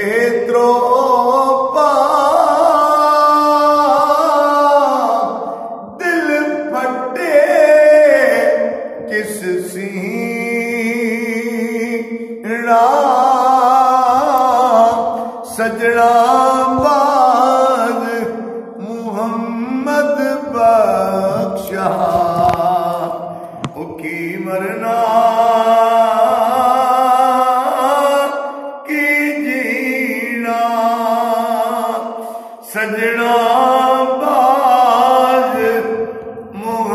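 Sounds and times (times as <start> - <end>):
man singing unaccompanied: 0.0 - 36.9.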